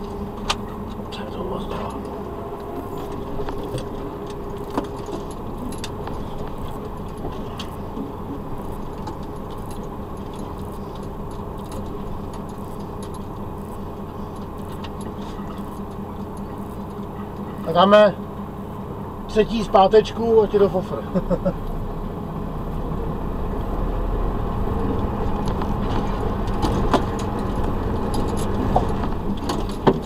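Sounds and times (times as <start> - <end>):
cab rattling and clicking: 0.0 - 23.8, 24.4 - 30.0
diesel engine running: 0.0 - 30.0.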